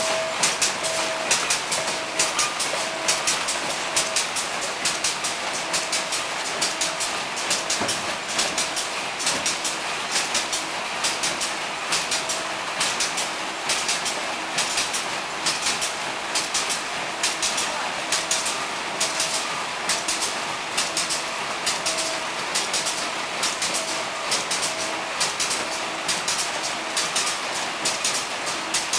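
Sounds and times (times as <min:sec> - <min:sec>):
packing machine clicks and clacks: 0:00.0 - 0:28.9.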